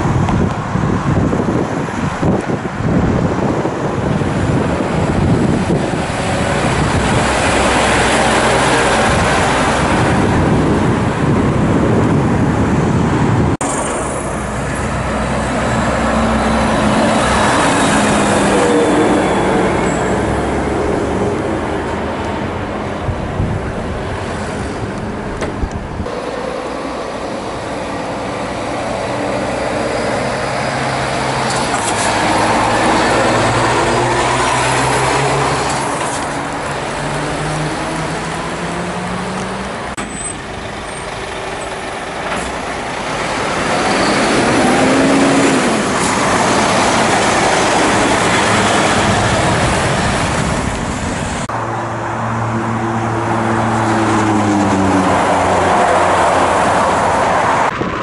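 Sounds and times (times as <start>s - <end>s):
diesel trucks accelerating past: 0.0s - 58.0s
tyre and road noise: 0.0s - 58.0s.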